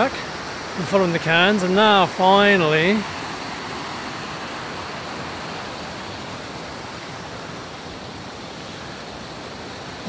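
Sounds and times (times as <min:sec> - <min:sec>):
river flowing over stones: 0:00.0 - 0:10.0.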